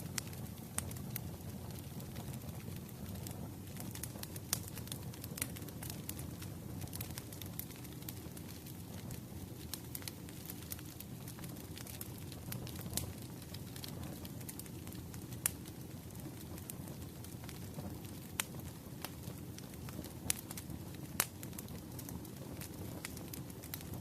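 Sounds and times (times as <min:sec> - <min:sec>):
fire roaring: 0:00.0 - 0:24.0
logs crackling and popping: 0:00.0 - 0:24.0.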